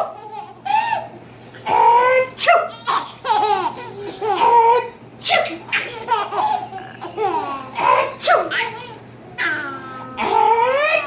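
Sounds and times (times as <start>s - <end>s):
babies laughing: 0.0s - 5.0s, 5.7s - 11.0s.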